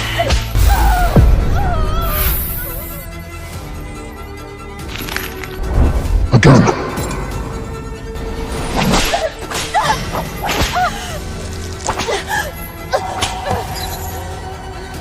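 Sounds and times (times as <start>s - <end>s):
dramatic background music: 0.0s - 15.0s.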